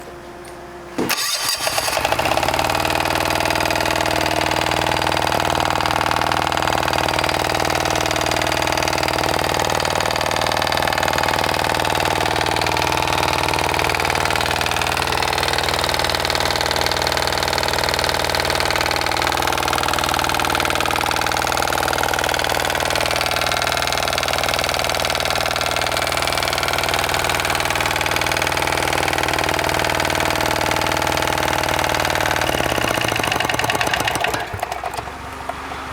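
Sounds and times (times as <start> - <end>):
diesel engine starting and running: 0.0 - 35.9.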